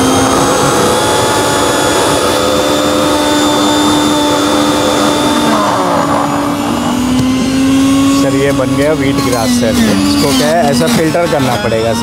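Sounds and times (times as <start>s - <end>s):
mixer-grinder motor whine: 0.0s - 12.0s.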